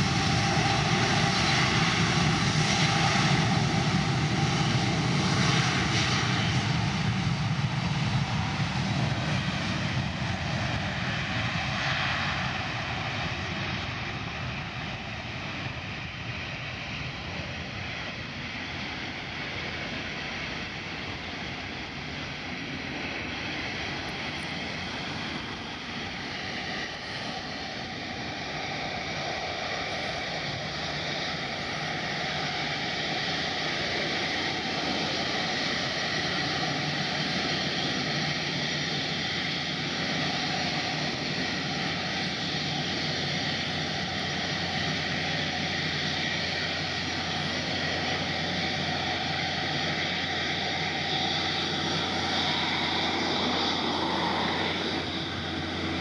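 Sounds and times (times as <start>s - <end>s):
jet airliner engines rumbling: 0.0s - 56.0s.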